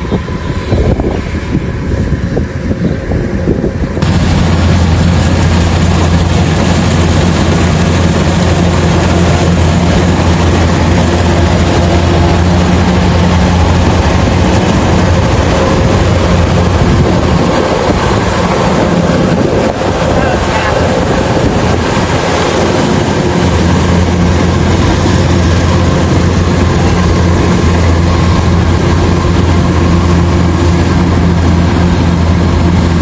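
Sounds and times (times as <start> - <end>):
harvester engine droning: 0.0 - 33.0.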